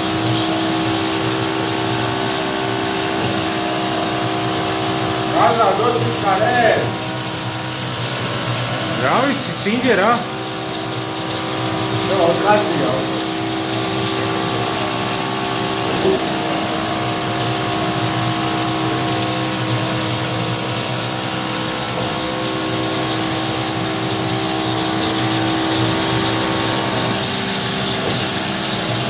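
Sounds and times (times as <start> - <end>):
coolant spraying and splashing: 0.0 - 29.0
end mill cutting metal: 0.0 - 29.0
milling machine spindle running: 0.0 - 29.0.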